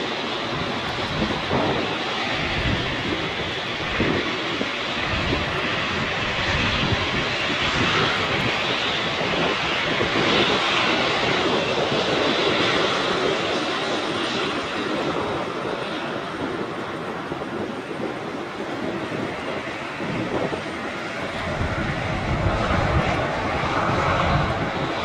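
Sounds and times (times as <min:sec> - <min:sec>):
jet engines passing: 0:00.0 - 0:25.0
wind buffeting microphone: 0:00.0 - 0:25.0.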